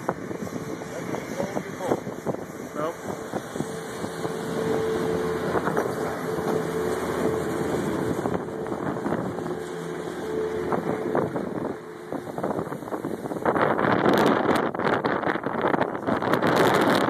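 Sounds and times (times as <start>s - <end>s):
steady mechanical hum: 0.0s - 17.0s
wind on microphone: 0.0s - 17.0s.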